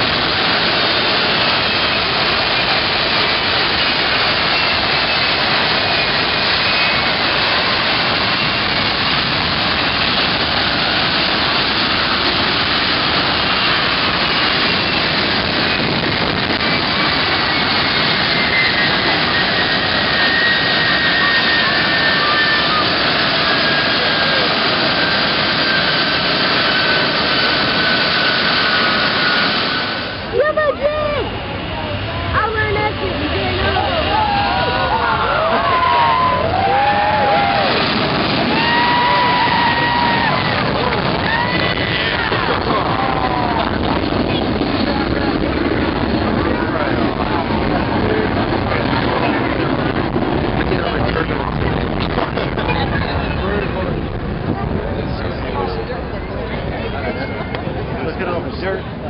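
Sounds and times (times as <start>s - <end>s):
high turbine whine: 0.0s - 59.0s
jet engines running: 0.0s - 59.0s.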